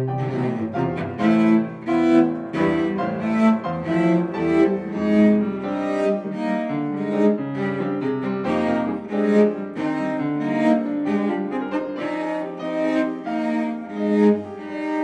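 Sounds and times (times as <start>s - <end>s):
bowed cello: 0.0s - 15.0s
piano accompaniment: 0.0s - 15.0s.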